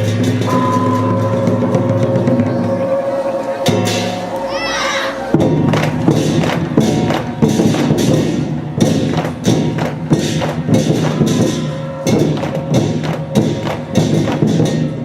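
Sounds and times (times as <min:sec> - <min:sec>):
big drum beating: 0:00.0 - 0:15.0
crashing cymbals: 0:00.0 - 0:15.0.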